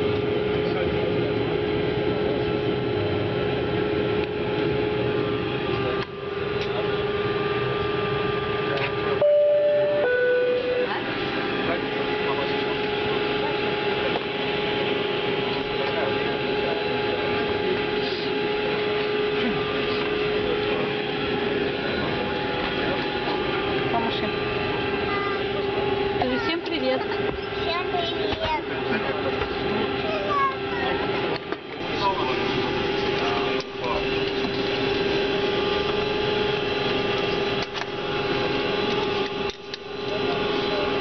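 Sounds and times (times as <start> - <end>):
airliner cabin rumble: 0.0 - 41.0
constant engine whine: 0.0 - 41.0.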